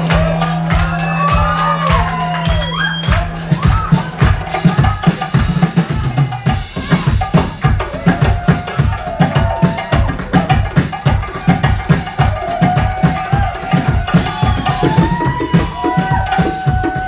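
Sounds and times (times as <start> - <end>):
bass: 0.0 - 17.0
drum kit groove: 0.0 - 17.0.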